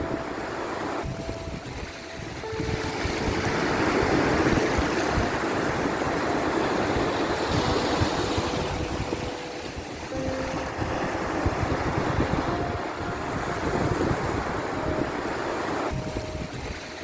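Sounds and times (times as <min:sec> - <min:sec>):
sea waves washing in: 0:00.0 - 0:17.0
soft background music: 0:00.0 - 0:17.0.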